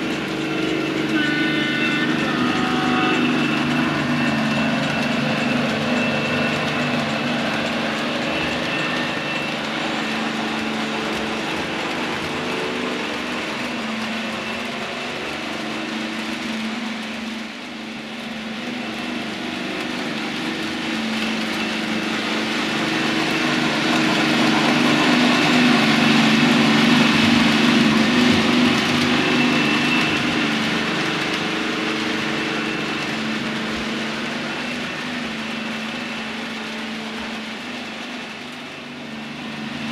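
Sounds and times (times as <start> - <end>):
model locomotive engine sound: 0.0 - 39.9.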